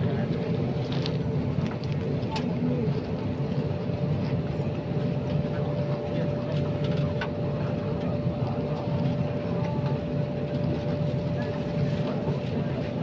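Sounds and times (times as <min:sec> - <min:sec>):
airliner cabin hum: 0:00.0 - 0:13.0
thin steady whine: 0:00.0 - 0:13.0.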